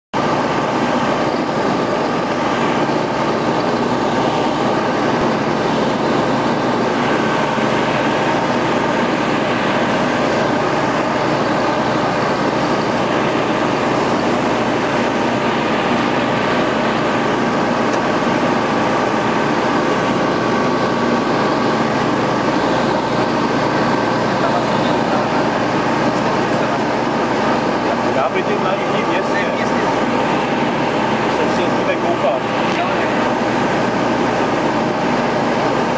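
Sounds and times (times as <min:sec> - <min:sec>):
aircraft engine drone: 0:00.2 - 0:35.9.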